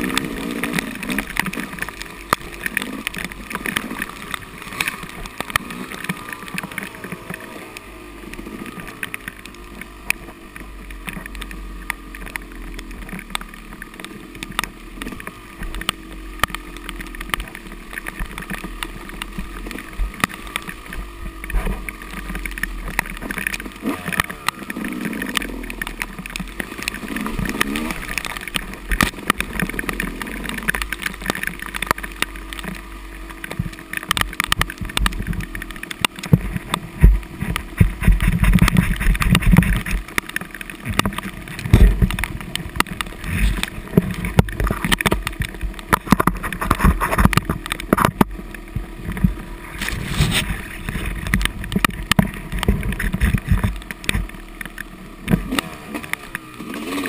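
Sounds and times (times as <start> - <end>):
dirt bike engine revving: 0.0 - 46.8, 47.5 - 57.0
bike knocking and clattering: 8.4 - 57.0.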